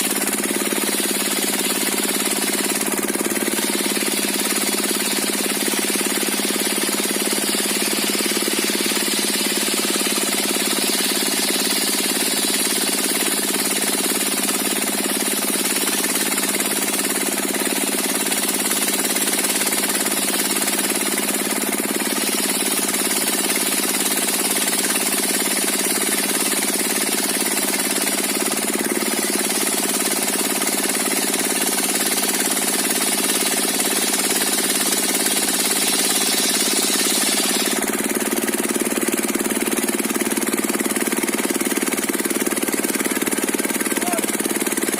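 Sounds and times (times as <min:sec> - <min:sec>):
diesel engine running a sawmill: 0:00.0 - 0:44.9.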